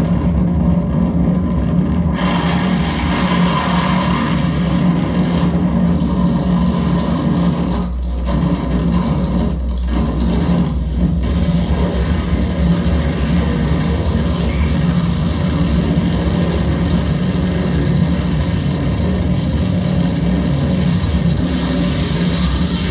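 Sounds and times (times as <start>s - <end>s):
electronic noise music: 0.0s - 22.9s
steady low hum: 0.0s - 22.9s.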